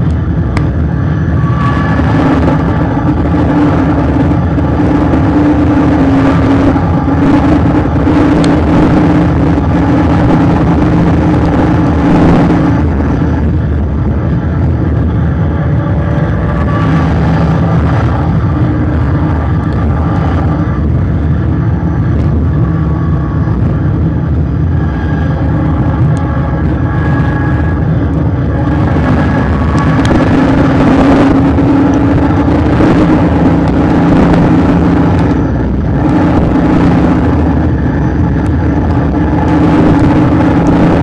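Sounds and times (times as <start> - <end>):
car engine running: 0.0 - 41.0
road noise: 0.0 - 41.0
wind noise: 0.0 - 41.0.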